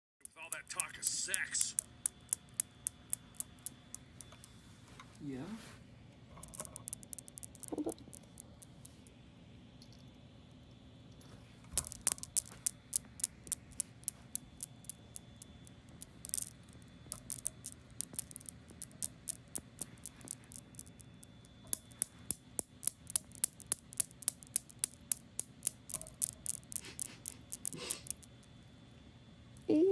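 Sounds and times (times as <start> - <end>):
newton's cradle balls clicking: 0.2 - 4.6, 6.3 - 9.2, 9.8 - 28.6.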